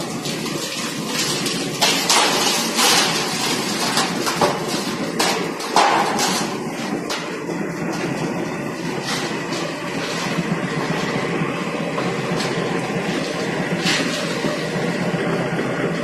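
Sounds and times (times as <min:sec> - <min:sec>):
grating noise bursts: 0:00.0 - 0:16.0
plate rolling machine running: 0:00.0 - 0:16.0.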